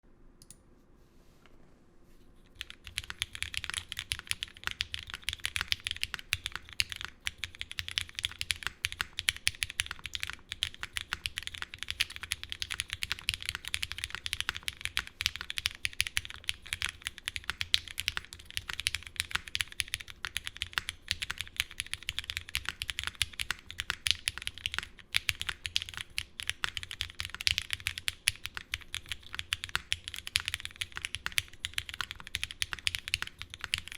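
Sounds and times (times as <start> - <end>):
fast typing on mechanical keyboard: 2.5 - 33.9.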